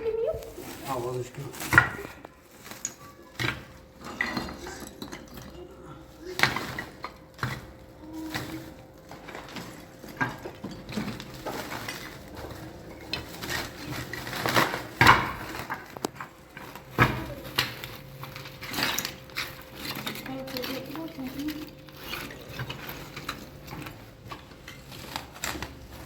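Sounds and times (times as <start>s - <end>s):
household objects clattering: 0.0s - 26.0s.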